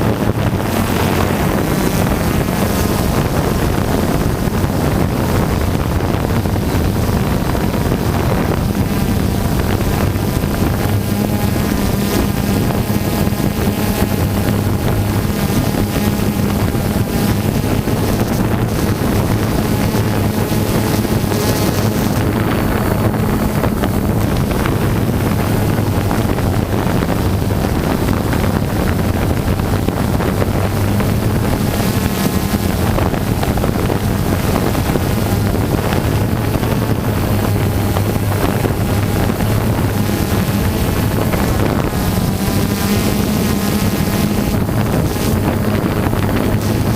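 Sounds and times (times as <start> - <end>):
drone buzzing hum: 0.0 - 46.9
wind buffeting microphone: 0.0 - 46.9.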